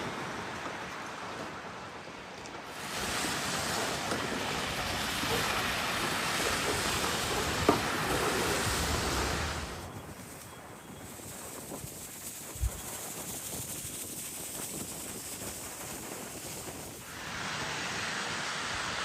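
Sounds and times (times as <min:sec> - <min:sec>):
rushing storm wind: 0:00.0 - 0:19.0.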